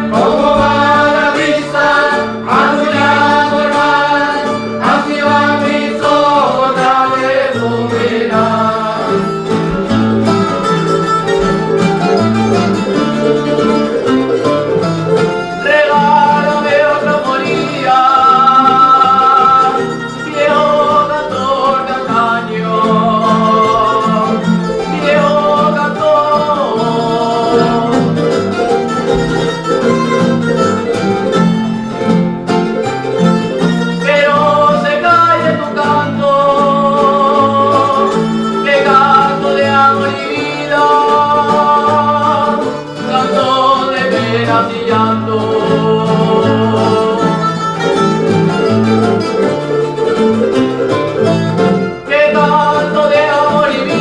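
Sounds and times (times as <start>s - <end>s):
strummed and plucked guitars: 0.0s - 54.0s.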